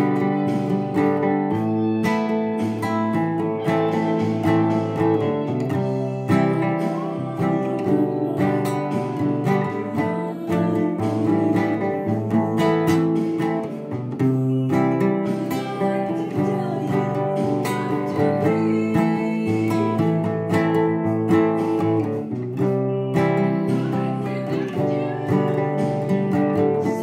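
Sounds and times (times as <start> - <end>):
acoustic guitar strummed chords: 0.0 - 27.0.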